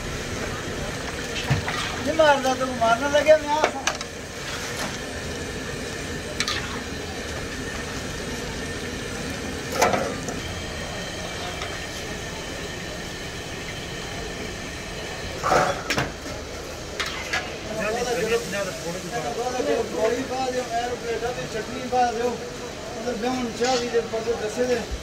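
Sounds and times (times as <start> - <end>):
pakoras sizzling in hot oil: 0.0 - 25.0.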